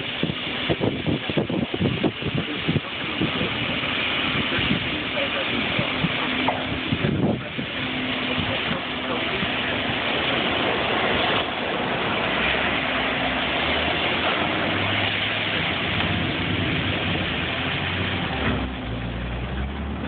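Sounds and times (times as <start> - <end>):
engine hum: 0.0 - 20.0
wood chips pouring: 0.0 - 20.0.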